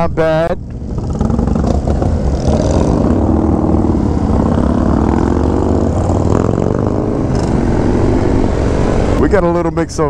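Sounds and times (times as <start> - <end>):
motorcycle engine accelerating: 0.8 - 9.3.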